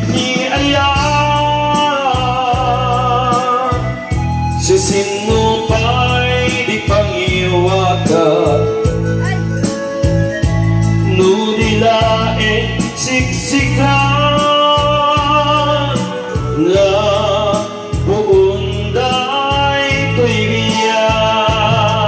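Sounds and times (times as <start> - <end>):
karaoke backing track: 0.0 - 22.0
man singing into microphone: 0.0 - 22.0.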